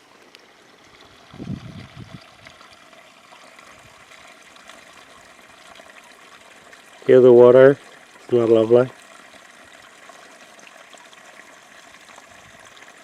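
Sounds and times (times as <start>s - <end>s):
small stream trickling: 0.0s - 13.0s.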